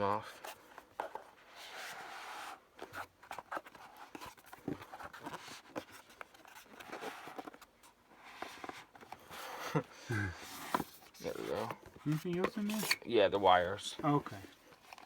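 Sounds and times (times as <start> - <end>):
packaging clicks and scrapes: 0.3 - 9.8, 10.4 - 13.1.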